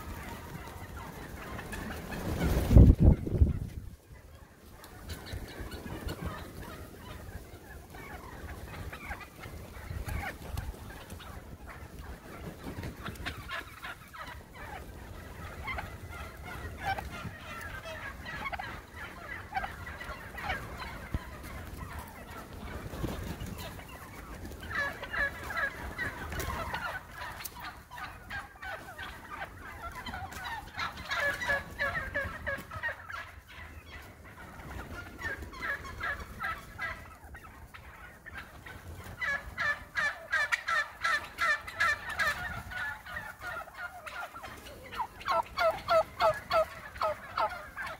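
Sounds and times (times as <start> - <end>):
flock of turkeys calling: 0.0 - 47.9.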